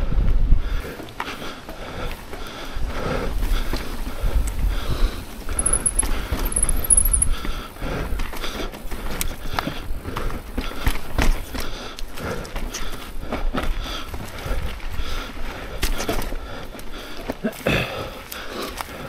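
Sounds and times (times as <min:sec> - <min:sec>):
low rumble of wind: 0:00.0 - 0:17.4
bike tyres on dirt: 0:00.0 - 0:19.0
bike rattling over bumps: 0:01.7 - 0:17.3.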